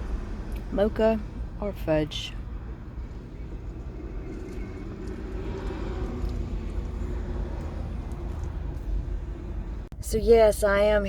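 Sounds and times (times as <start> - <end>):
low vehicle drone: 0.0 - 10.0.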